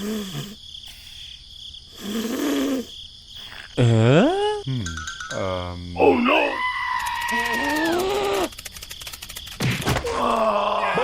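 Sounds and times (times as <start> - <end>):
insects chirring: 0.0 - 11.0
wordless vocal calls: 0.0 - 11.0.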